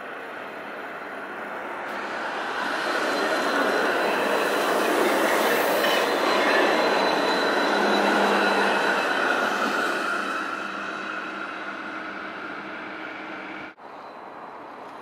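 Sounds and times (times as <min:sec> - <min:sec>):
tram wheels rumbling on rails: 0:00.0 - 0:13.8
high-pitched whine: 0:01.8 - 0:14.3.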